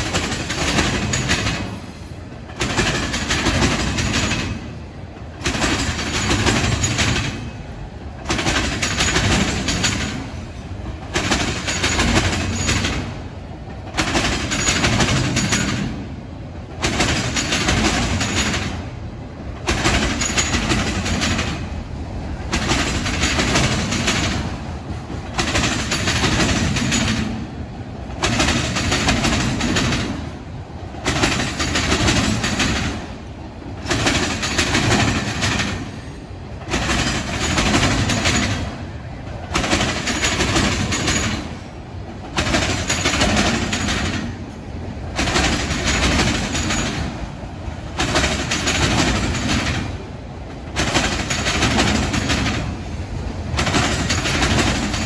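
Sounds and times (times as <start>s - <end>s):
freight train cars rumbling: 0.0s - 55.0s.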